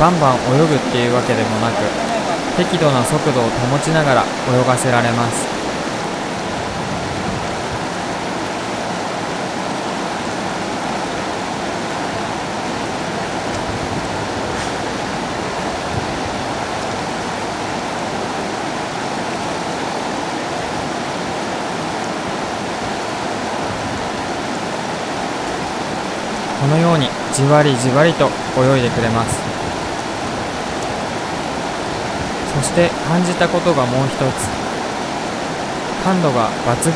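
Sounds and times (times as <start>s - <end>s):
river current rushing: 0.0s - 36.9s.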